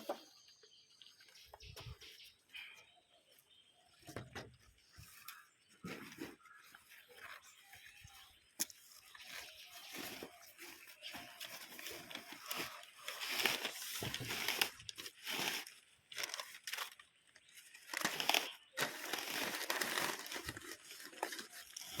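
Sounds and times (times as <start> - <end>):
plastic bags rustling and crinkling: 4.0 - 22.0.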